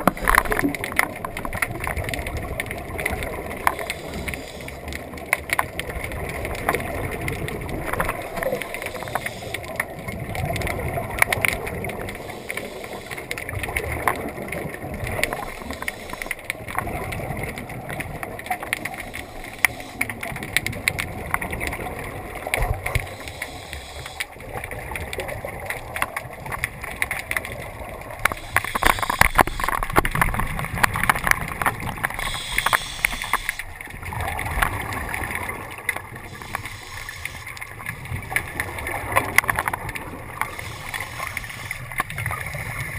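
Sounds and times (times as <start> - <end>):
regulator bubbles gurgling underwater: 0.0 - 42.9.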